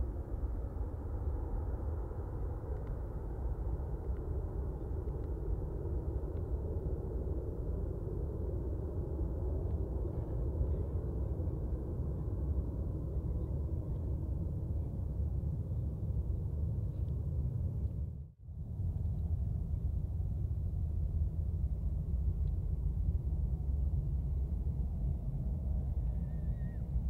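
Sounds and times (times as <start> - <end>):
deep jet rumble: 0.0 - 27.0.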